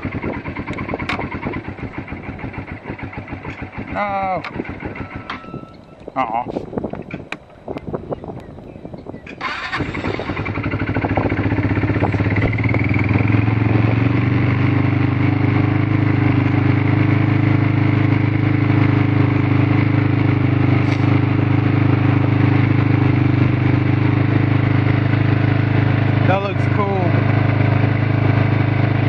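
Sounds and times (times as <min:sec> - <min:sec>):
atv engine starting and running: 0:00.0 - 0:29.0.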